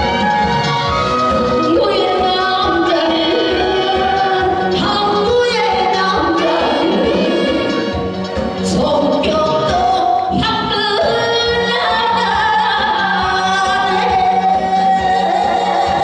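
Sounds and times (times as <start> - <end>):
person singing with accompaniment: 0.0 - 16.0.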